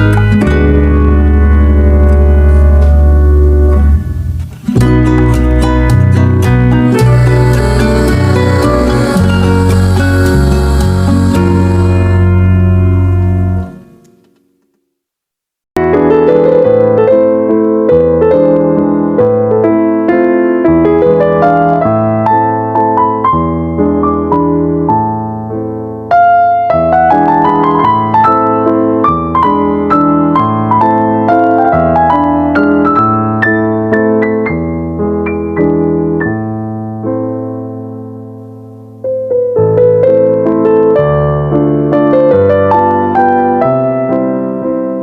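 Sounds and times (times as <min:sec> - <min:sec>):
solo piano piece: 0:00.0 - 0:14.7, 0:15.8 - 0:45.0.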